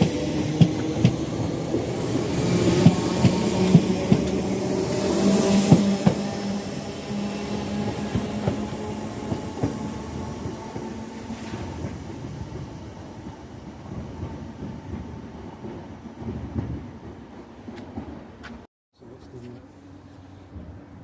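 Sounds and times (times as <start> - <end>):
steady train hum: 0.0 - 21.0.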